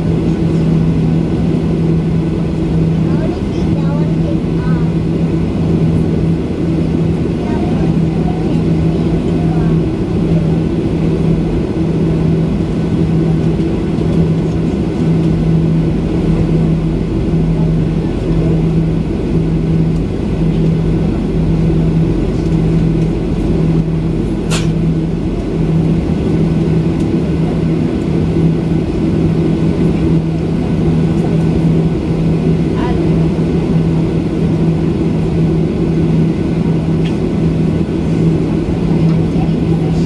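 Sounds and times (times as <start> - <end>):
jet engines idling: 0.0 - 40.0.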